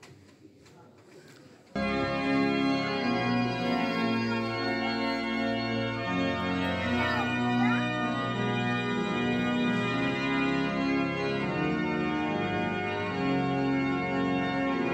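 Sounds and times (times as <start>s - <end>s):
church organ chords: 1.8s - 14.9s.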